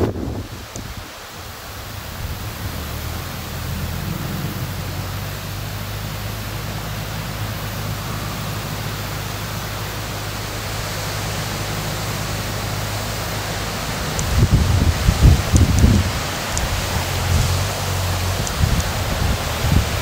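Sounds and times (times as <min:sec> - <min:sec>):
rushing hiss: 0:00.0 - 0:20.0
distant tractor engine running: 0:01.6 - 0:20.0.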